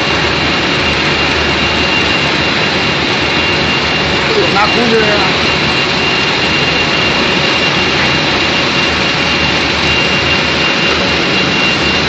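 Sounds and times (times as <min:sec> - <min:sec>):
high machine whine: 0:00.0 - 0:12.0
loud steady machine noise: 0:00.0 - 0:12.0.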